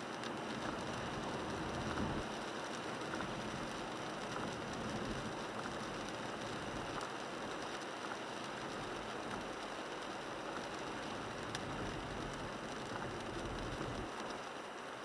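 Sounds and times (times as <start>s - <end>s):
rain hiss: 0.0s - 15.0s
tyres on a wet road: 0.0s - 15.0s.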